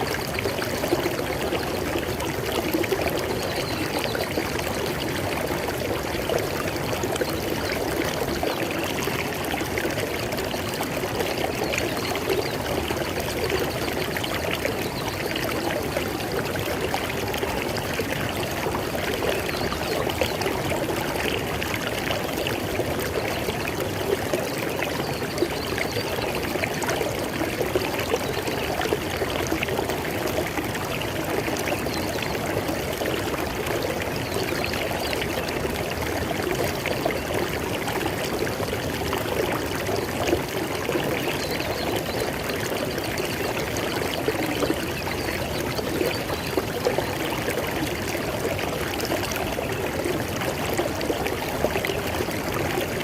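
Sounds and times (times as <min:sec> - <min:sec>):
river water flowing over rocks: 0:00.0 - 0:53.0.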